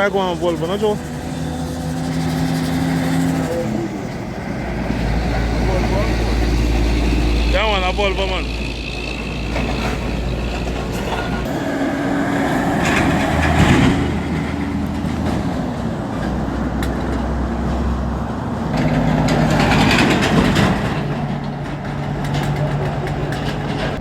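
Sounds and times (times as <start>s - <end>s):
heavy truck engine: 0.0s - 24.0s
road traffic: 0.0s - 24.0s.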